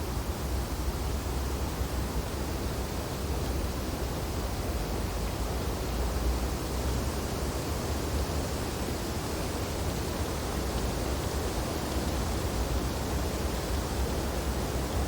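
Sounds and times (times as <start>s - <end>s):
wind through tree branches: 0.0s - 15.0s.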